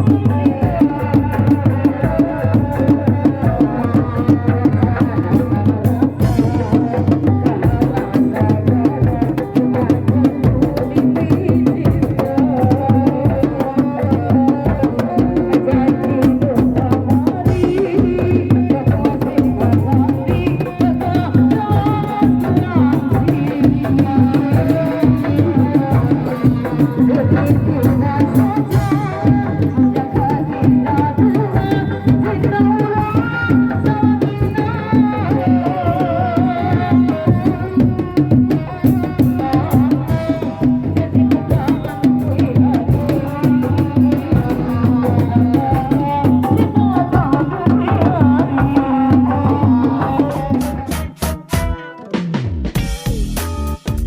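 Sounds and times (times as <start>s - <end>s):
hand drums fast rhythm: 0.0s - 54.0s.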